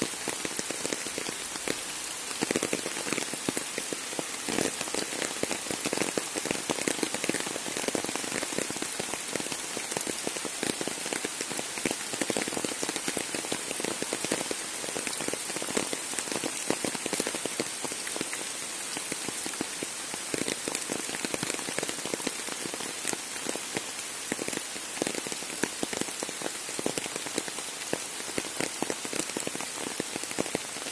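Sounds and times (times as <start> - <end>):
rain falling on leaves: 0.0 - 30.9.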